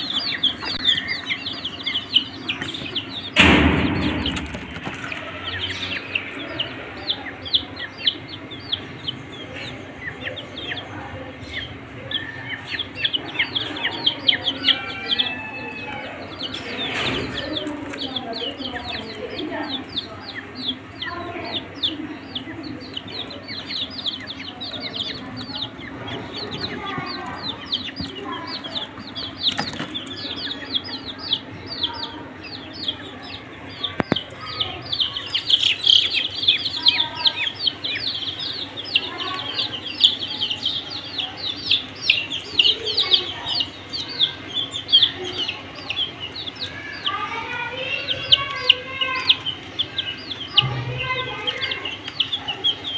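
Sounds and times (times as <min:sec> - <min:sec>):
baby chicks peeping: 0:00.0 - 0:52.9.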